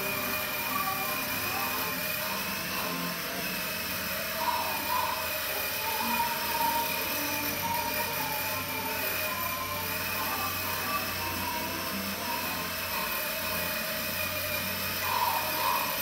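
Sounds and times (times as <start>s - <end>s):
electric toy motor whine: 0.0s - 16.0s.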